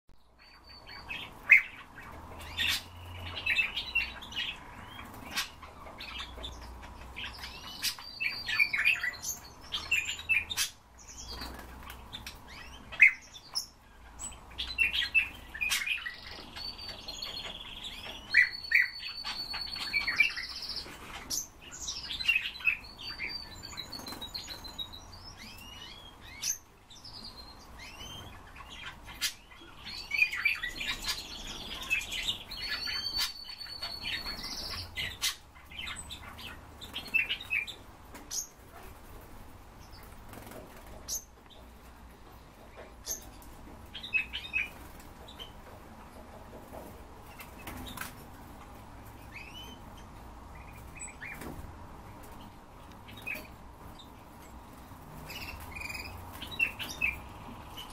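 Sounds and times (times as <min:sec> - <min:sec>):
birds chirping and calling: 0:00.2 - 0:57.9.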